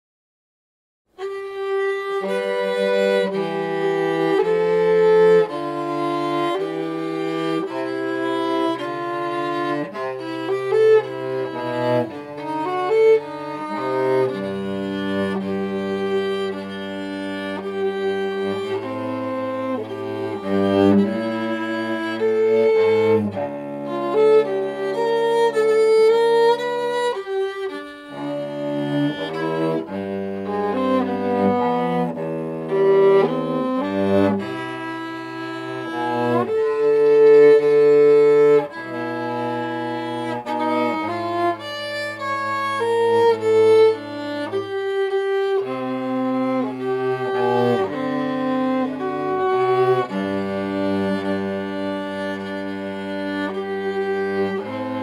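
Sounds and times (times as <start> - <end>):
violin melody: 1.1 - 55.0
cello bowing low notes: 1.2 - 55.0.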